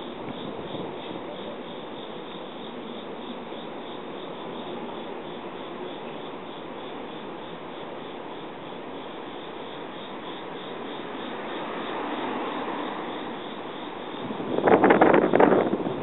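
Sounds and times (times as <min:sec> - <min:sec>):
crickets chirping: 0:00.0 - 0:16.0
rushing background noise: 0:00.0 - 0:16.0.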